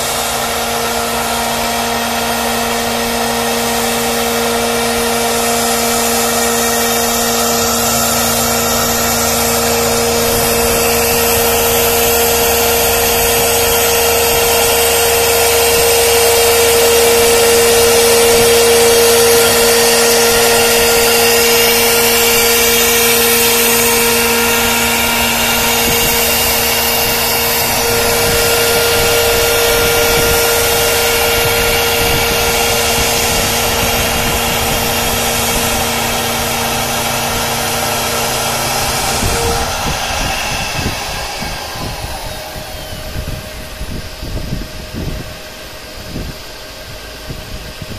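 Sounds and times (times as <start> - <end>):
router bit cutting wood: 0.0 - 47.9
router spindle whining: 0.0 - 47.9.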